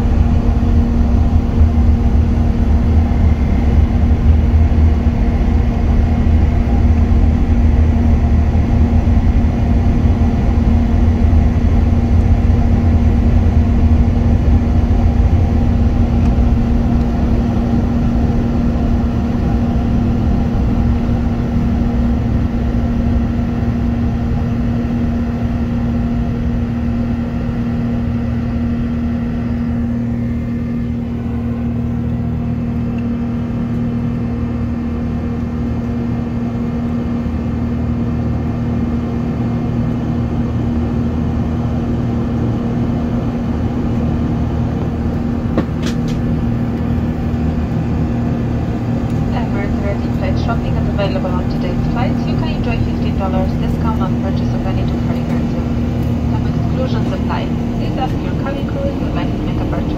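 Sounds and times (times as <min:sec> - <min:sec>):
jet engines hum in cabin: 0:00.0 - 0:59.9
low rumble of runway roll: 0:00.0 - 0:59.9.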